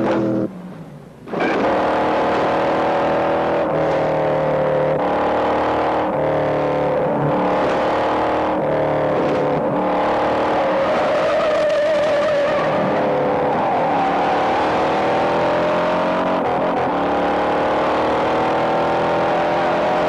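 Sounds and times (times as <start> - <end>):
muscle car engines racing: 1.2 - 20.0.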